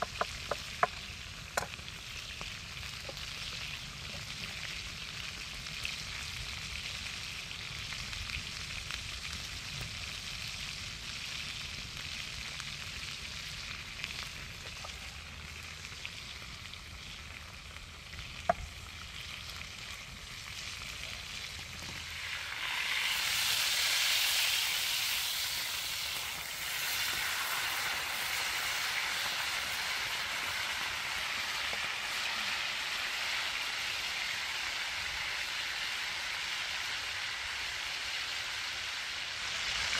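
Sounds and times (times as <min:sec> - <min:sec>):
sausage sizzling in a pan: 0:00.0 - 0:39.9.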